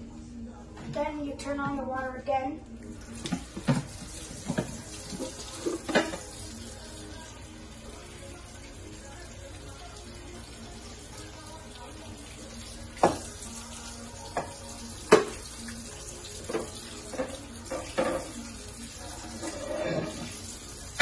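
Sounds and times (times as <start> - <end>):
faucet running into sink: 2.8 - 21.0.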